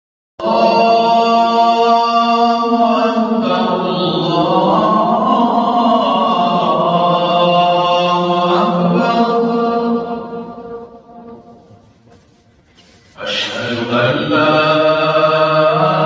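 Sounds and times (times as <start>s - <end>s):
voices chanting long notes: 0.4s - 11.6s, 13.2s - 16.0s.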